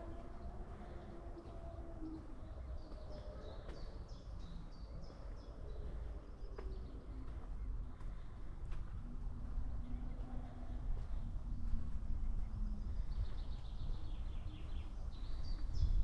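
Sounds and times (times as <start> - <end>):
songbird chirping: 0.0 - 16.0
steady low rumble: 0.0 - 16.0.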